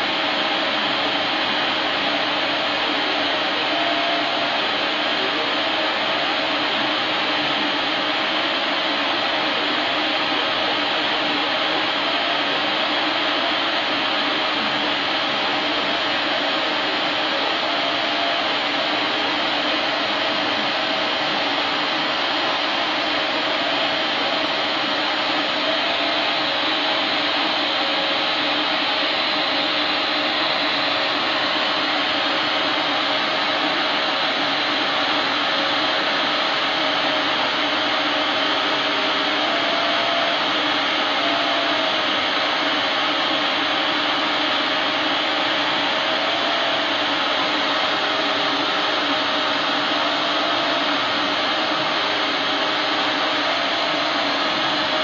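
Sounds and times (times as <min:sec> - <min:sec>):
laser cutter blowing air: 0:00.0 - 0:55.0.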